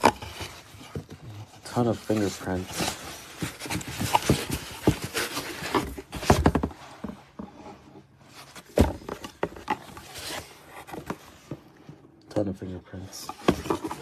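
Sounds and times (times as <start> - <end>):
rustling: 0.0 - 11.7, 13.0 - 14.0.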